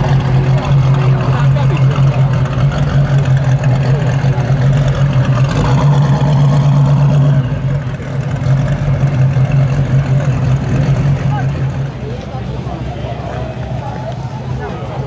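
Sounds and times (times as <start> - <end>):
car engine running at low speed: 0.0 - 15.0.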